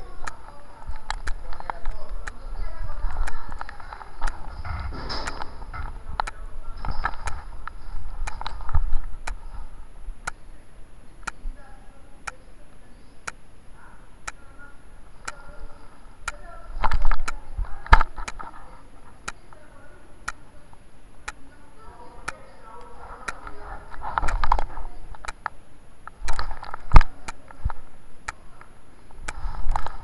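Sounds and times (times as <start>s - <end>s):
sharp regular ticking: 0.0s - 11.6s, 12.2s - 20.5s, 21.1s - 30.0s
faint muffled voices: 0.0s - 30.0s.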